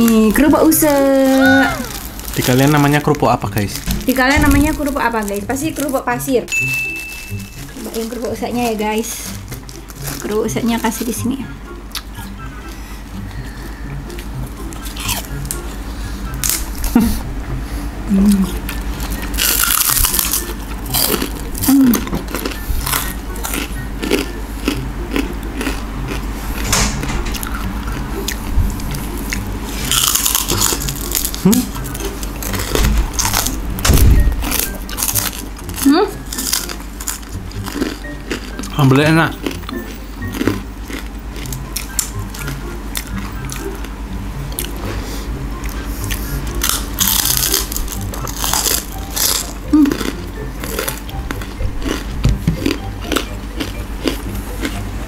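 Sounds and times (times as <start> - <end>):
crackers being bitten and chewed: 0.0 - 11.2, 11.9 - 17.0, 18.4 - 44.8, 45.6 - 54.8.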